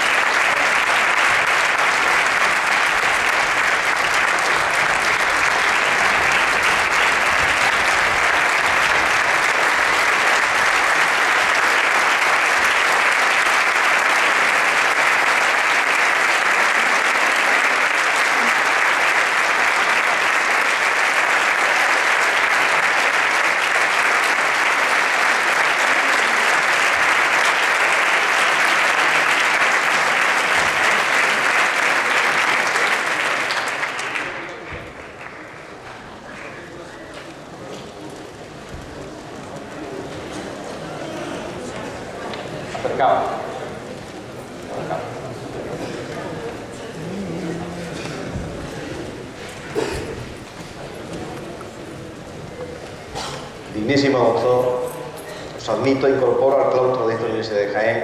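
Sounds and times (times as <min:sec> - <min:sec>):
audience applauding: 0:00.0 - 0:54.5.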